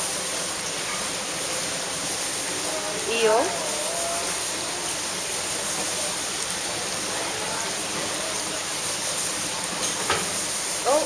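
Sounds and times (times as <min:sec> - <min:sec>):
running and bubbling water: 0:00.0 - 0:11.0.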